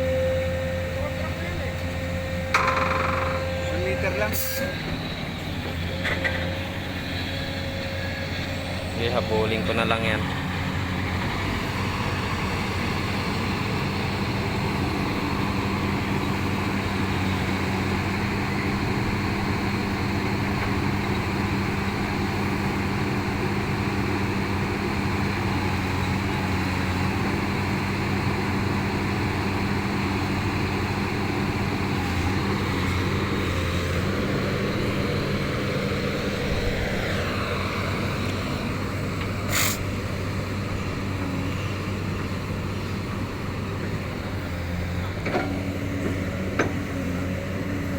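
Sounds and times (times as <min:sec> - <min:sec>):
backhoe diesel engine running: 0:00.0 - 0:47.9.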